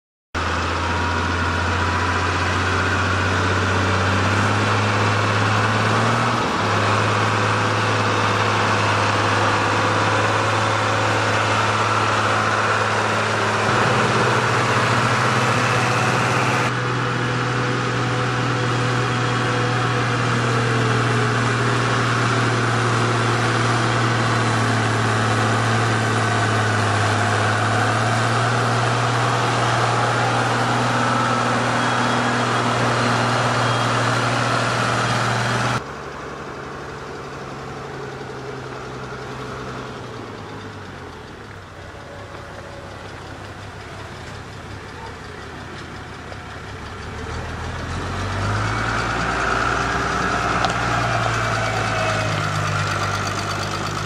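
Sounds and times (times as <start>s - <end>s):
tractor diesel engine running: 0.4s - 54.0s.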